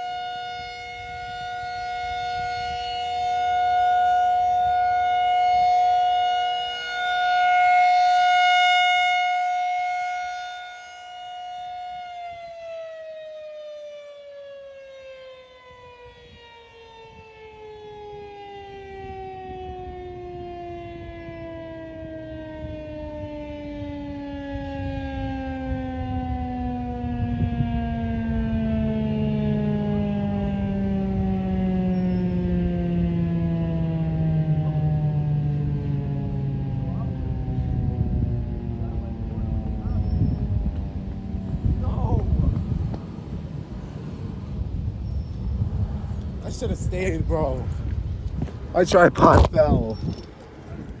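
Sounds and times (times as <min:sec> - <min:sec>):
rotating warning siren: 0:00.0 - 0:51.0.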